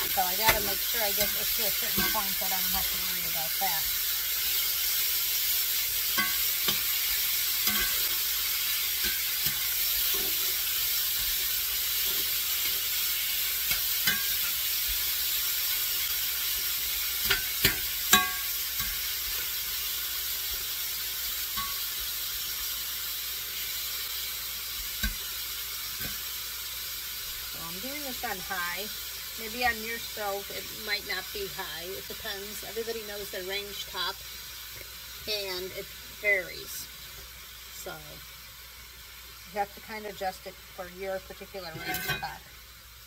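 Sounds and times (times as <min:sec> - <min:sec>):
meat sizzling in a frying pan: 0:00.0 - 0:43.0
sharp clicks of frying: 0:00.0 - 0:43.0.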